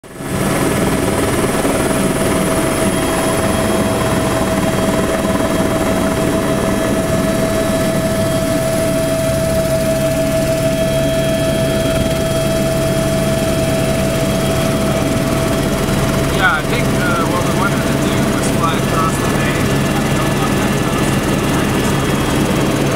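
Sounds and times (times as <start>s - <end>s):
helicopter engine and rotor drone: 0.0s - 22.9s
high whine: 0.8s - 22.9s.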